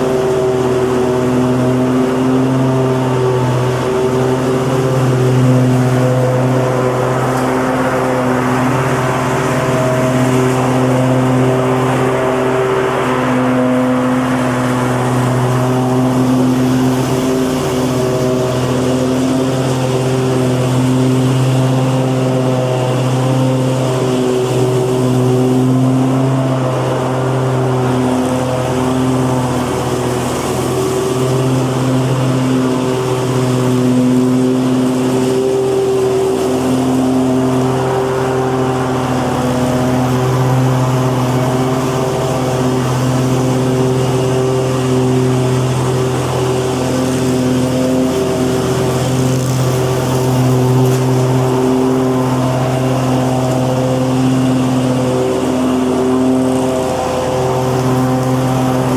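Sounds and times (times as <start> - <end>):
lawnmower engine running: 0.0 - 58.9.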